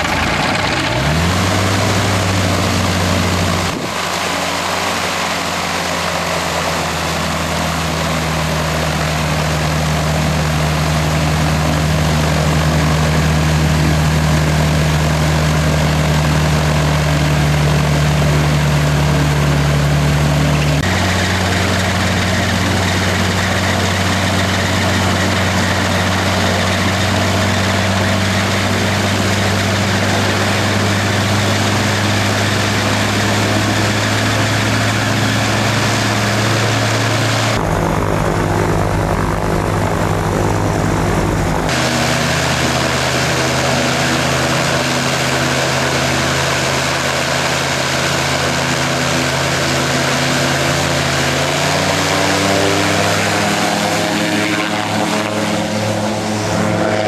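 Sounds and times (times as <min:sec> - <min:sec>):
aircraft engine and propeller running: 0:00.0 - 0:57.0.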